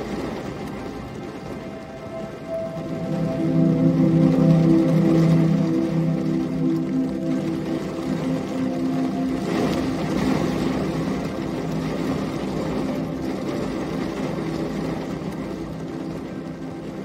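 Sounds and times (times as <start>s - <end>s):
low rumble: 0.0s - 17.0s
steady rain: 0.0s - 17.0s
faint sustained low tones: 1.2s - 17.0s.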